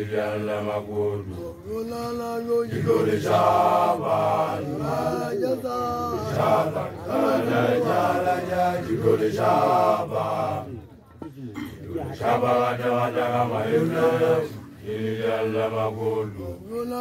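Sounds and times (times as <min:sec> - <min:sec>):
male voices chanting together: 0:00.0 - 0:10.8, 0:11.9 - 0:17.0.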